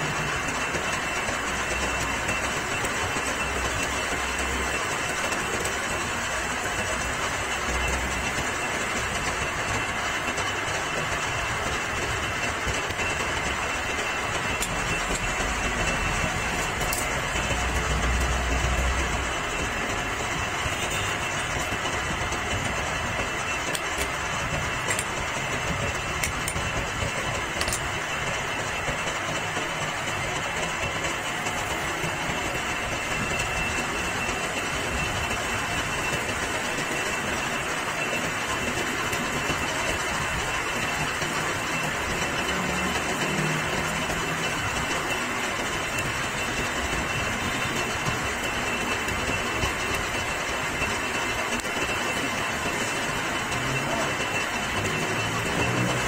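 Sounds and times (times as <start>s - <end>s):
metal lathe running: 0.0s - 56.0s.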